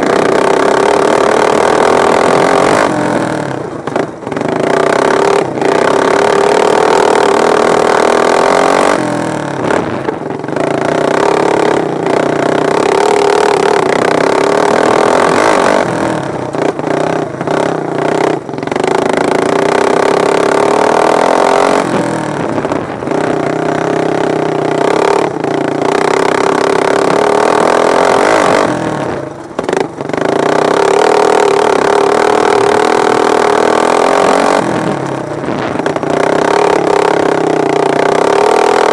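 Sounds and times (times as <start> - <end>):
racing lawn mower engines revving: 0.0 - 38.9.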